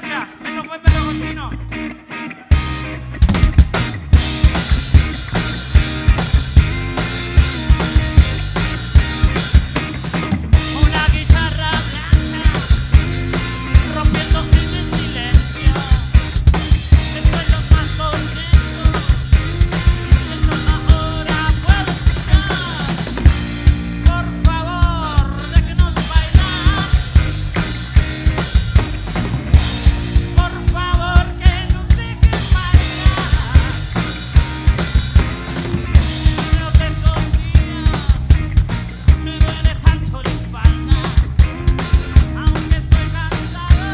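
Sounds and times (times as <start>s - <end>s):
band playing drum-driven music: 0.0s - 43.9s.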